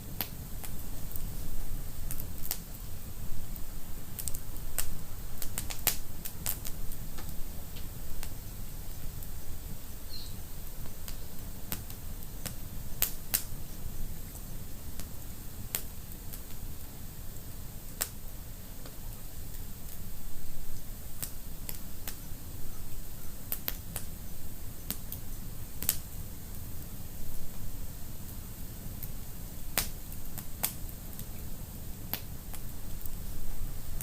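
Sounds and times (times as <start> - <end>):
fire crackling and popping: 0.0 - 34.0
low rumble of flames: 0.0 - 34.0.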